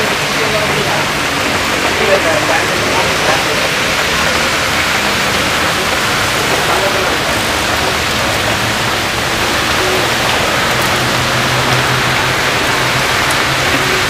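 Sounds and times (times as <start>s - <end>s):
heavy rain hissing on road: 0.0s - 14.0s
low engine hum: 0.0s - 14.0s
traffic on wet road: 0.0s - 14.0s.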